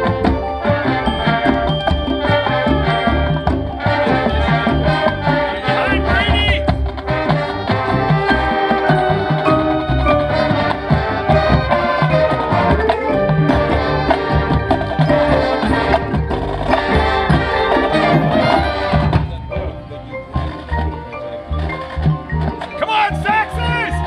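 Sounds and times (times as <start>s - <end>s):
marching band music: 0.0s - 24.0s.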